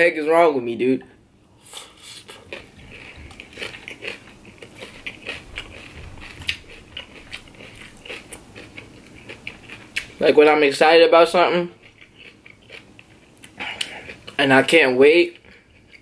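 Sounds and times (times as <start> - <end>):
person chewing crunchy salad: 1.6 - 10.4, 11.3 - 16.0.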